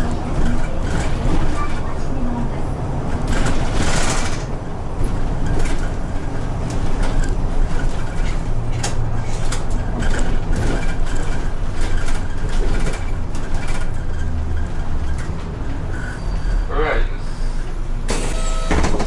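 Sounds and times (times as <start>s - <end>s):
bus engine drone: 0.0s - 19.0s
road noise: 0.0s - 19.0s.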